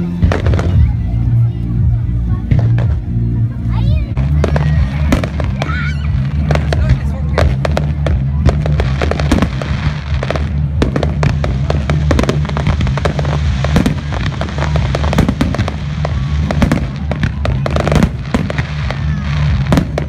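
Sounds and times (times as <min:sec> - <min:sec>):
fireworks bursting: 0:00.0 - 0:01.4, 0:02.4 - 0:03.4, 0:04.1 - 0:20.0
music playing: 0:00.0 - 0:20.0.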